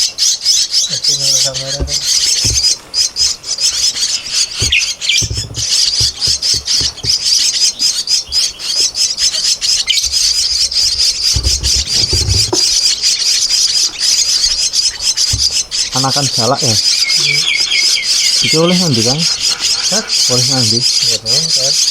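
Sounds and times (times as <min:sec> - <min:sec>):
nestlings begging harsh chattering: 0:00.0 - 0:21.9
low thumps: 0:01.2 - 0:21.4.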